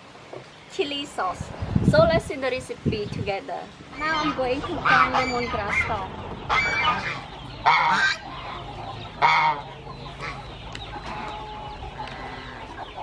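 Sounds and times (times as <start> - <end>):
chickens clucking: 0.3 - 13.0
chickens calling loudly: 0.4 - 13.0.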